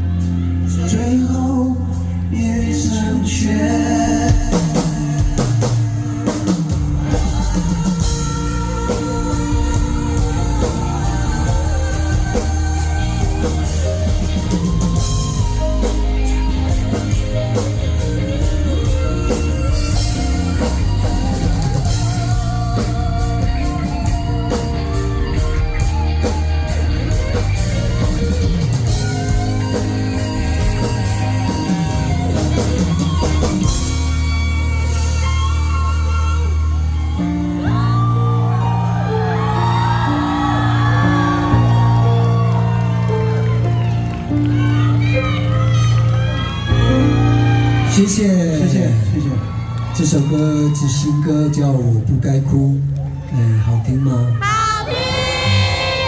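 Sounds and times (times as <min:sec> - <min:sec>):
electric guitar lead melody: 0:00.0 - 0:49.9
bass guitar: 0:00.0 - 0:56.0
drum kit: 0:03.4 - 0:50.9.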